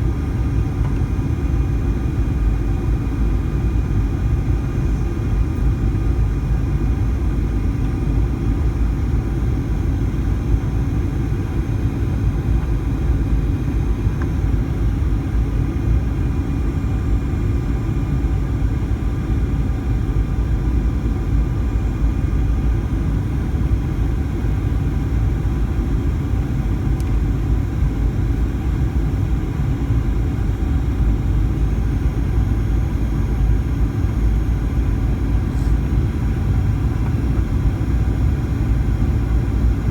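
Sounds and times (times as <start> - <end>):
airliner cabin rumble: 0.0 - 39.9
faint engine whine: 0.0 - 39.9.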